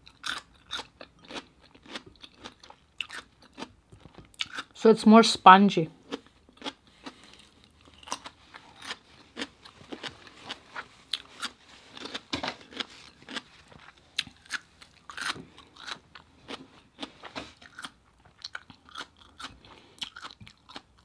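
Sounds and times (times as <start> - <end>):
chewing with wet crunches: 0.0 - 4.8, 6.0 - 21.0.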